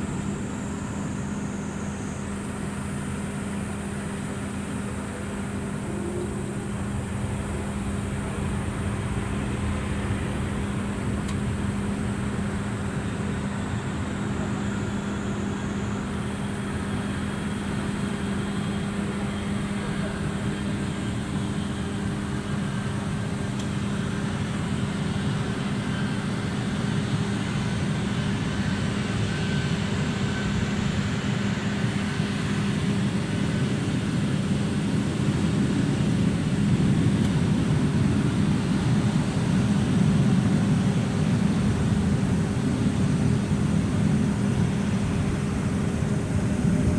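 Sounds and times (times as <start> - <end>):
jet engines humming and rushing: 0.0 - 46.9.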